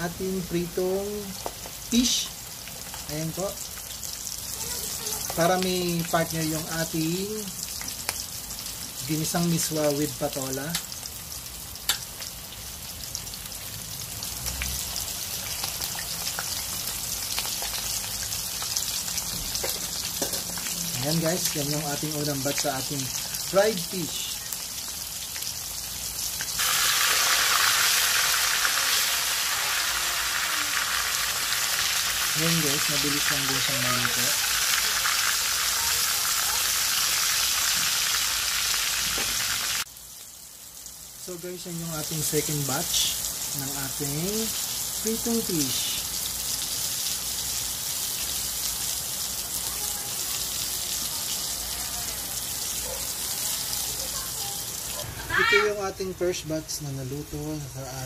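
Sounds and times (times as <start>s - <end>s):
fish frying in hot oil: 0.0s - 58.0s.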